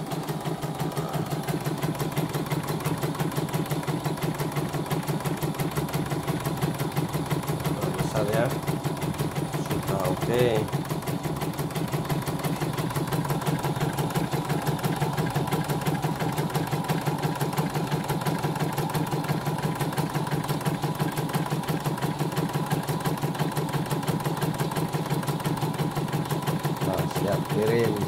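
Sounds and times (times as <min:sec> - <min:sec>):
embroidery machine needle stitching: 0:00.0 - 0:28.0
steady motor hum: 0:00.0 - 0:28.0.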